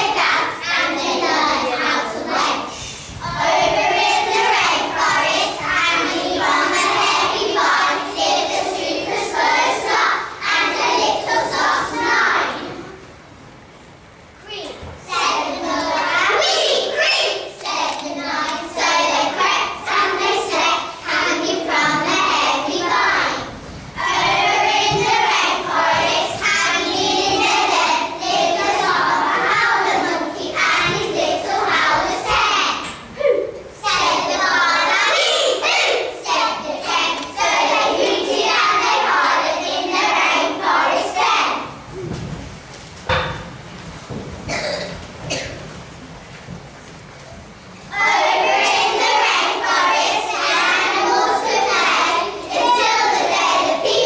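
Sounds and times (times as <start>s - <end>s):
children singing together: 0.0s - 13.0s, 15.0s - 33.1s, 33.7s - 41.9s, 44.5s - 45.4s, 47.9s - 54.0s.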